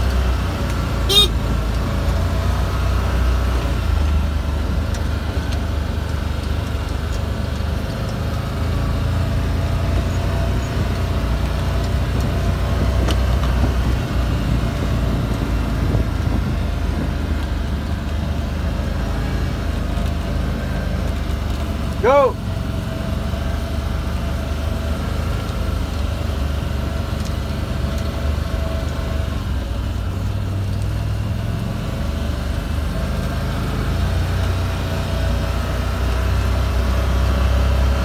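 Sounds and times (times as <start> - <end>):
vehicle engine droning: 0.0 - 38.0.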